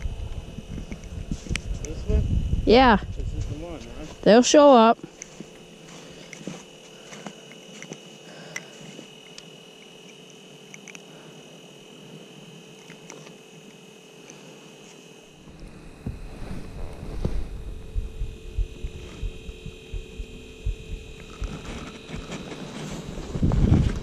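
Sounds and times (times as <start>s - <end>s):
low hum: 0.0s - 13.2s, 15.2s - 24.0s
high-pitched whine: 0.0s - 24.0s.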